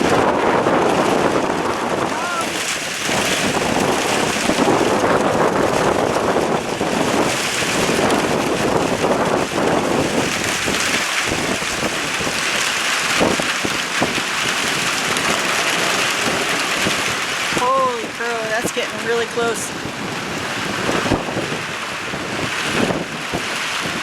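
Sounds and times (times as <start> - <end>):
rain falling: 0.0 - 24.0
wind buffeting microphone: 0.0 - 24.0.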